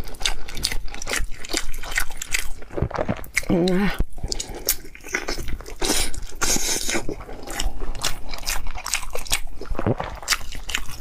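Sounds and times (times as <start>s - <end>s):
lip and tongue clicks: 0.0s - 11.0s
wet chewing mouth sounds: 0.0s - 11.0s.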